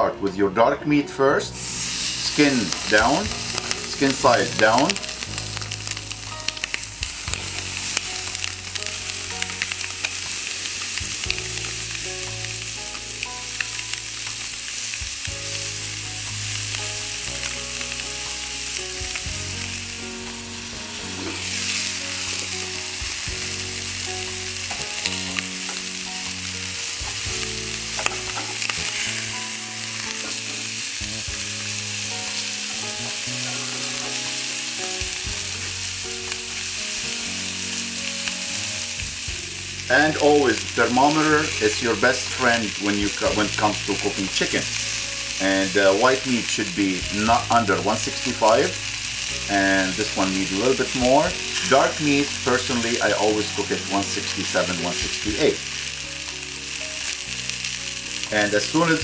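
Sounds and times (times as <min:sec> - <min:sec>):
chicken sizzling on grill: 0:01.5 - 0:59.0.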